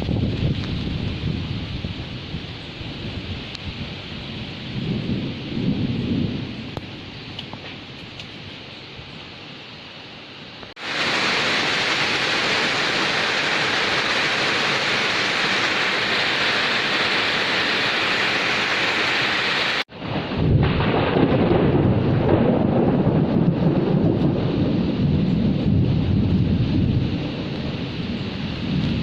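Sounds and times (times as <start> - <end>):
rain pattering: 0.0 - 8.7, 10.5 - 29.0
rolling thunder rumble: 0.0 - 9.1, 10.8 - 29.0
heavy downpour hiss: 0.0 - 29.0.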